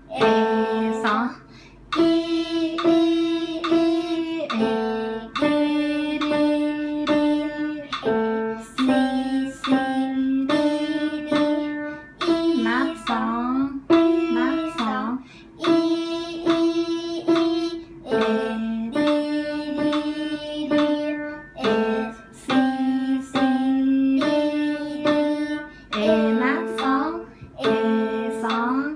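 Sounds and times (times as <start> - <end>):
upright piano melody: 0.0 - 28.9.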